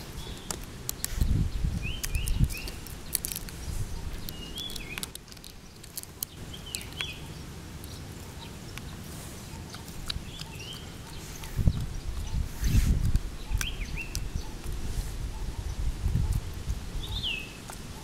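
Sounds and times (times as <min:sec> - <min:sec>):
monkey chewing and lip-smacking: 0:00.0 - 0:18.0.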